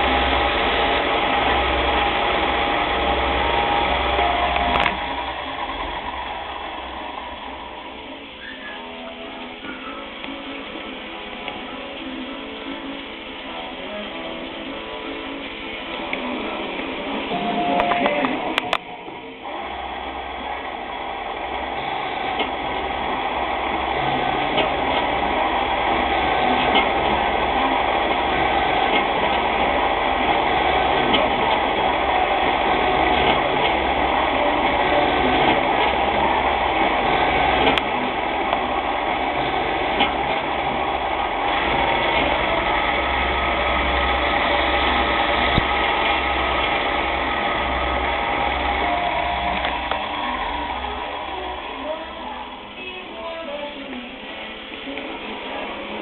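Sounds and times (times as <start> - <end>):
lathe running: 0.0 - 56.0
low hum: 0.0 - 56.0.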